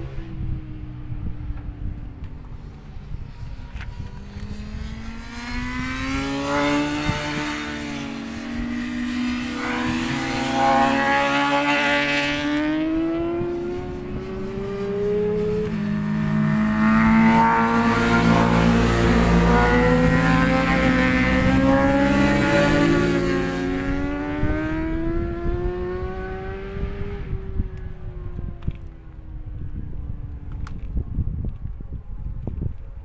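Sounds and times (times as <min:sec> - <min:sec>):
racing motorcycles accelerating: 0:00.0 - 0:30.8
wind rumble on microphone: 0:00.0 - 0:33.0.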